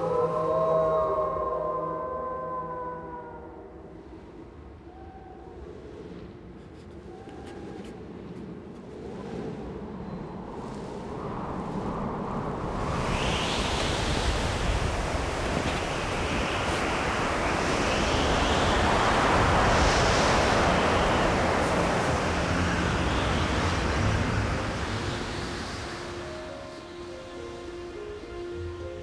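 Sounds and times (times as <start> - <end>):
strong blizzard wind: 0.0 - 29.0.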